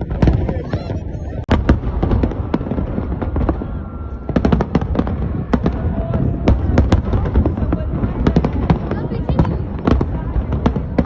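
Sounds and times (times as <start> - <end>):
fireworks rumble and cracks: 0.0 - 11.0.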